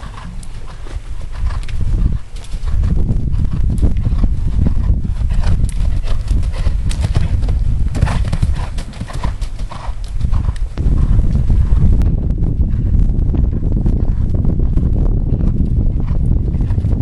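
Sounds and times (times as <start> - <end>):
horse hoofbeats cantering: 0.0 - 17.0
steady low rumble: 0.0 - 17.0.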